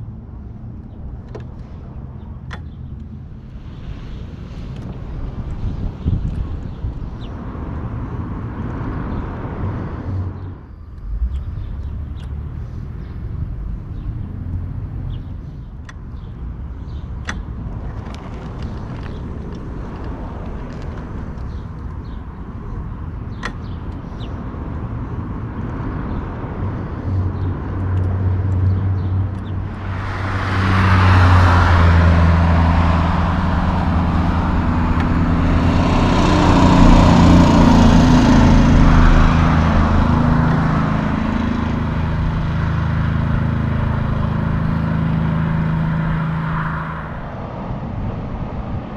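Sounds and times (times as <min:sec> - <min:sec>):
diesel truck engine: 0:00.0 - 0:48.9.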